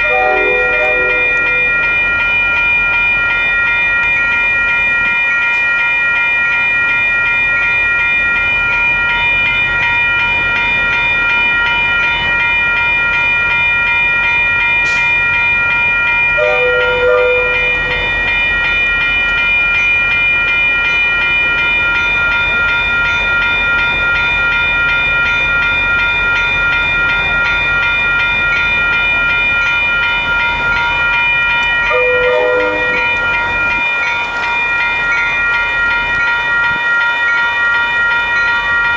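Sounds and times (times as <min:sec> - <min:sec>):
railroad crossing bell ringing: 0:00.0 - 0:38.9
train rumbling past slowly: 0:00.0 - 0:38.9.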